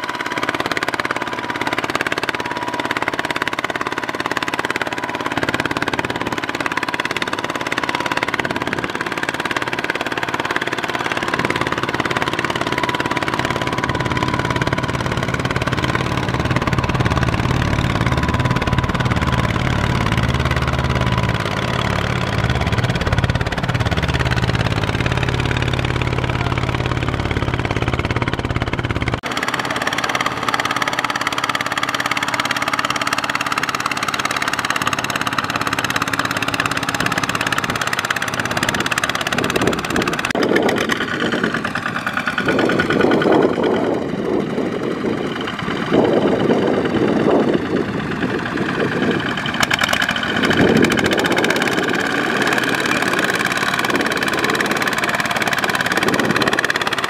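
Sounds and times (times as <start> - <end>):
diesel tractor engine labouring: 0.0 - 57.0.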